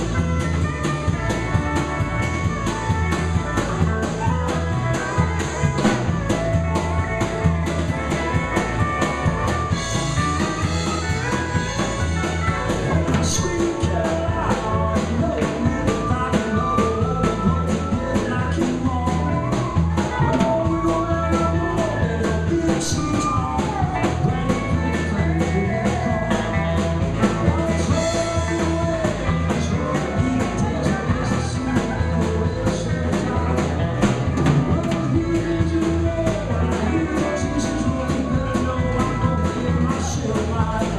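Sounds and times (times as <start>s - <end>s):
live country band: 0.0s - 40.9s
pedal steel guitar: 0.0s - 40.9s
steady drum beat: 0.0s - 40.9s.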